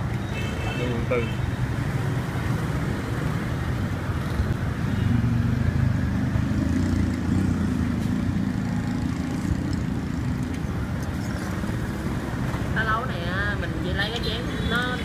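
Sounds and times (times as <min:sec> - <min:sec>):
vehicle engines humming: 0:00.0 - 0:15.0.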